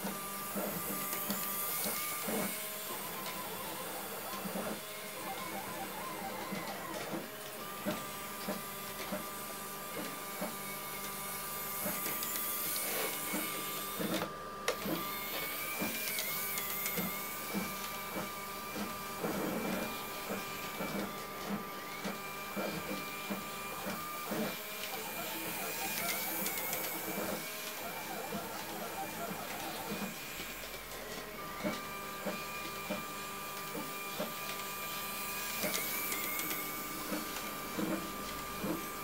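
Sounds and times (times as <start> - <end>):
small electric motor whining: 0.0 - 39.0.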